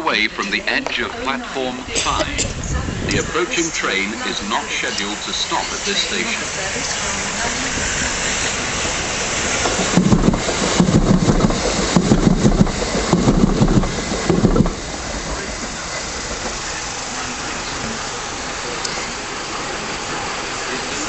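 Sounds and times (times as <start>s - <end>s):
passing train rushing: 0.0s - 21.0s
train wheels clattering over rail joints: 2.0s - 21.0s.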